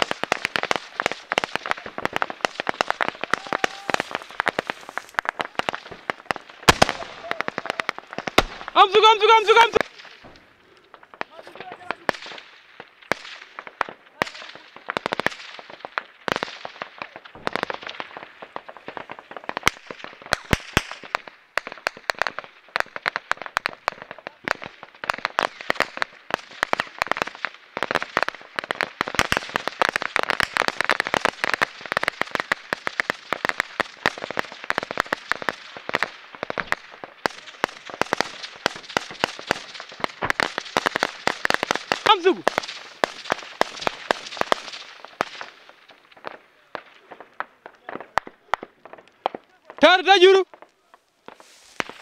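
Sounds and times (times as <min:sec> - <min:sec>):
dry grass and brush burning: 0:00.0 - 0:52.0
sharp fire cracks: 0:00.0 - 0:52.0.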